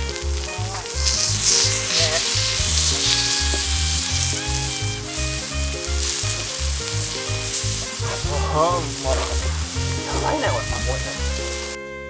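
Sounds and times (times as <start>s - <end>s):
steak sizzling on salt plate: 0.0s - 11.8s
background music with pulsing bass: 0.0s - 12.0s.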